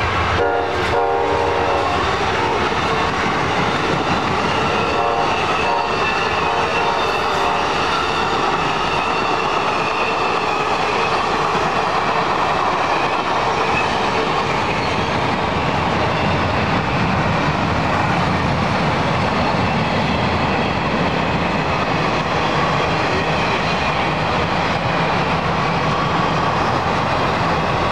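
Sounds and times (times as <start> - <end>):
train wheels clickety-clack on rails: 0.0 - 27.9.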